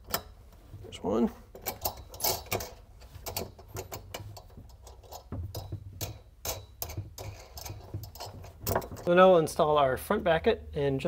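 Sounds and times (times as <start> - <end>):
wing nuts threaded onto bolts: 0.0 - 0.9, 1.5 - 9.6.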